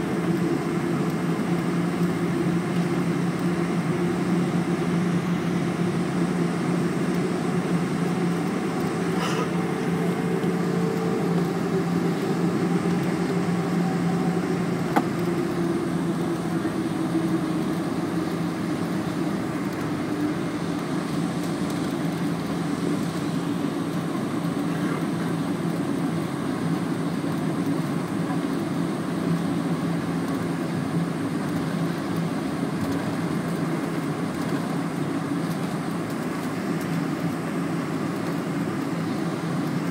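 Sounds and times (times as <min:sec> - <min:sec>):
airliner cabin engine hum: 0:00.0 - 0:39.9.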